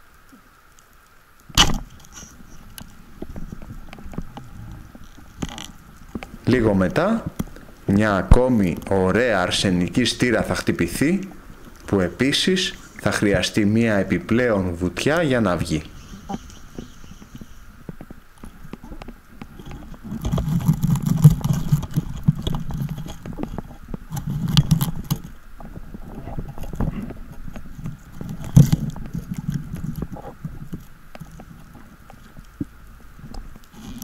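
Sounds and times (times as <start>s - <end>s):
muffled underwater water rushes: 0.0s - 34.0s.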